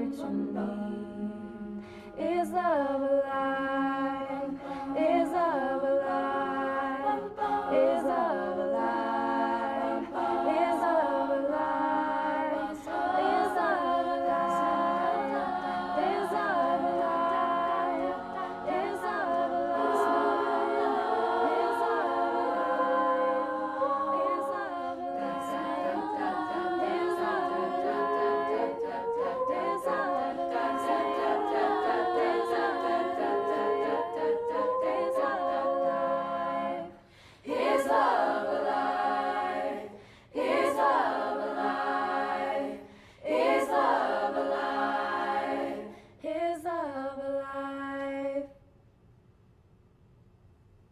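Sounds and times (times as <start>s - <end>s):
vocal group singing in harmony: 0.0s - 48.6s.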